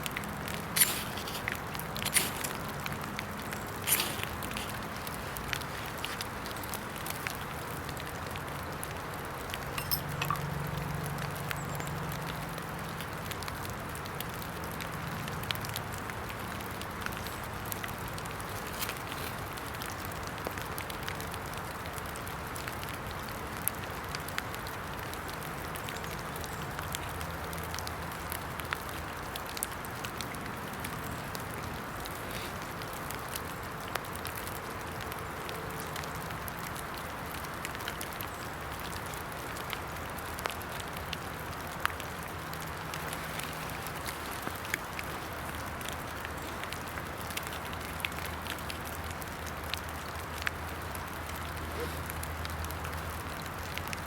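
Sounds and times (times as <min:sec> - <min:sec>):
rain falling in woodland: 0:00.0 - 0:54.0
sharp ticks and crackles: 0:00.0 - 0:54.0.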